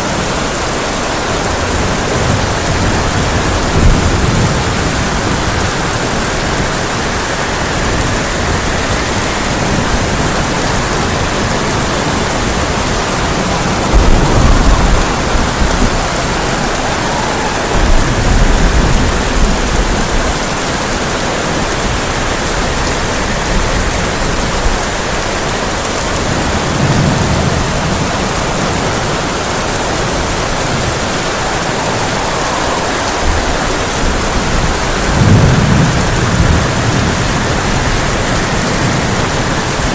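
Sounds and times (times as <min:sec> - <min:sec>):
heavy rain on a tin roof: 0:00.0 - 0:39.9
low thunder rumbling: 0:00.0 - 0:39.9.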